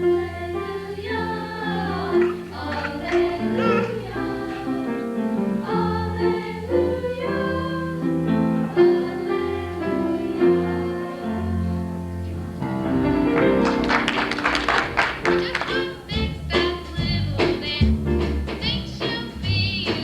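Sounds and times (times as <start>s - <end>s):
stage show music: 0.0s - 20.0s.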